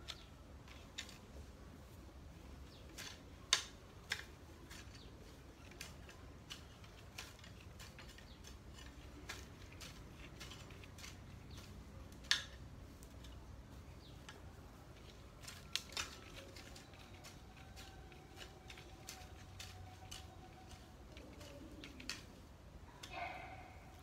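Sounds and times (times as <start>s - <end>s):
hand tool snipping grass: 2.1s - 24.0s.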